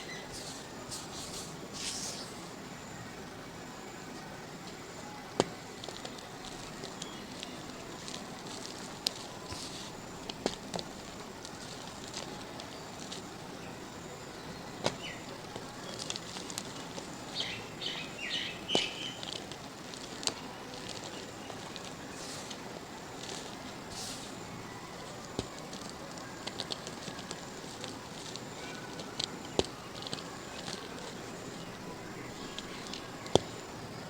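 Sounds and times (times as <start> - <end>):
dried mud cracking: 4.7 - 34.0.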